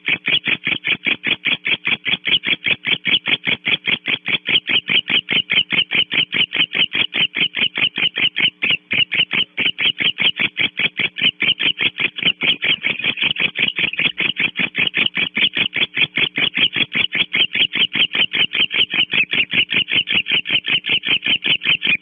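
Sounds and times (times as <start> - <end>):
faint steady hum: 0.0 - 22.0
small animal chirping rapidly: 0.0 - 22.0.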